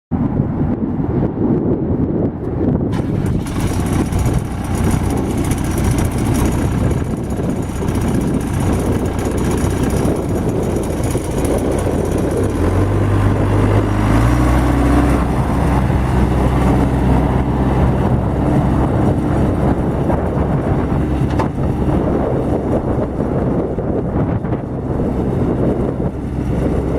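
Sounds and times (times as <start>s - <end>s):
diesel engine running: 2.8s - 26.9s.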